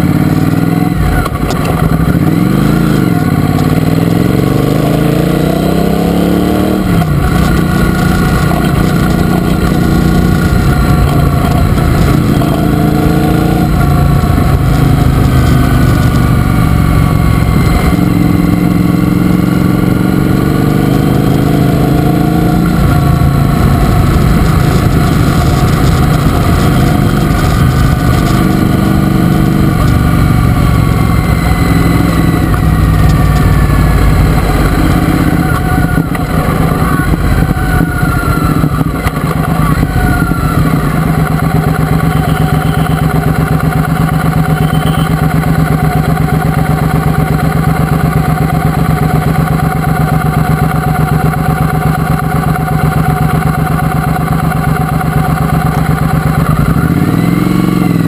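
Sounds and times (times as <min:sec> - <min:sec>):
motorcycle engine slowing and idling: 0:00.0 - 0:58.0.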